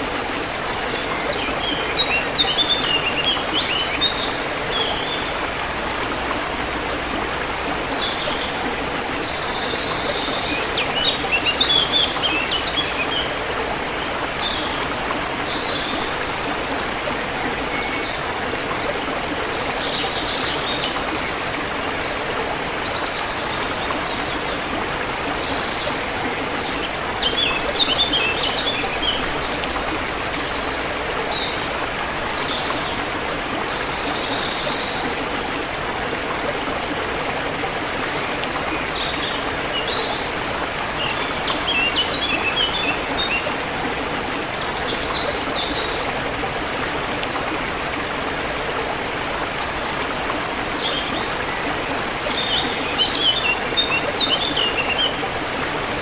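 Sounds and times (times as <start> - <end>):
songbirds chirping: 0.0 - 56.0
stream flowing: 0.0 - 56.0.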